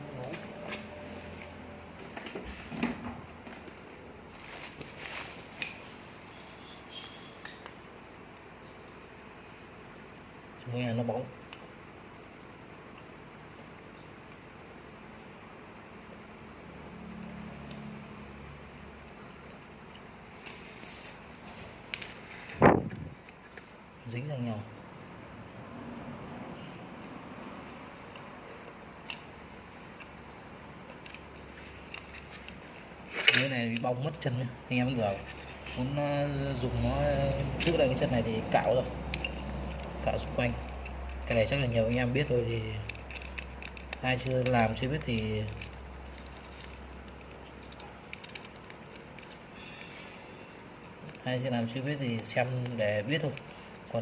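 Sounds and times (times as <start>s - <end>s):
low background noise: 0.0s - 54.0s.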